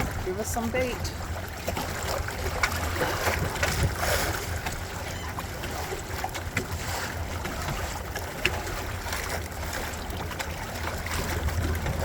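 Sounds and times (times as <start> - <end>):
water rushing along hulls: 0.0 - 12.0.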